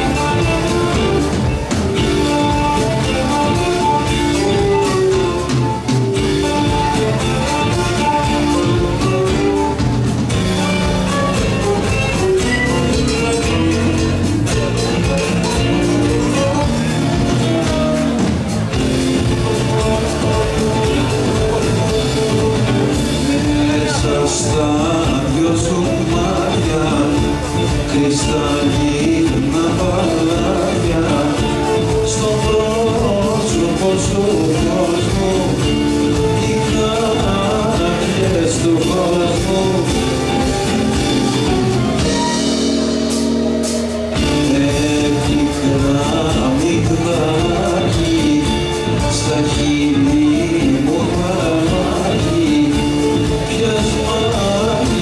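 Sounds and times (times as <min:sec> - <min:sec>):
man singing: 0:00.0 - 0:42.7, 0:44.1 - 0:55.0
acoustic guitar: 0:00.0 - 0:55.0
drums: 0:00.0 - 0:55.0
electric guitar: 0:00.0 - 0:55.0.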